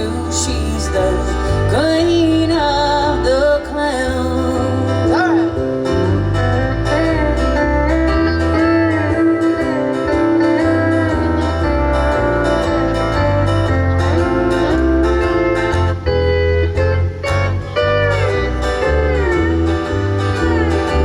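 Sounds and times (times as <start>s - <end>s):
bass line: 0.0s - 21.0s
steel guitar sliding notes: 0.0s - 21.0s.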